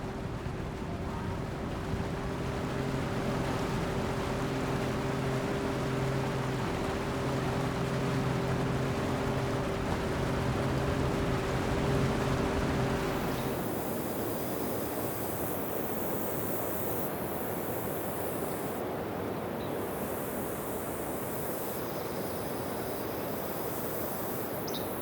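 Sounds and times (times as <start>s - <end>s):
engine drone: 0.0s - 25.0s
even wash of noise: 0.0s - 25.0s.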